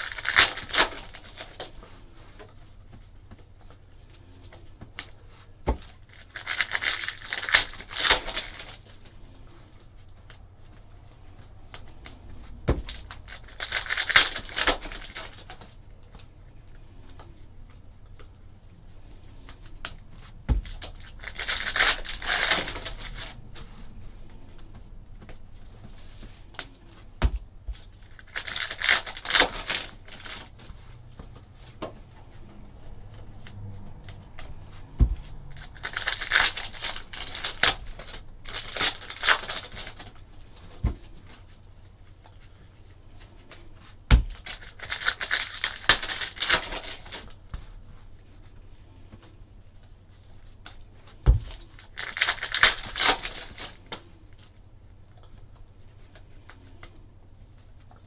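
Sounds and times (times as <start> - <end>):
trading cards rustling: 0.0 - 47.5, 49.2 - 54.6.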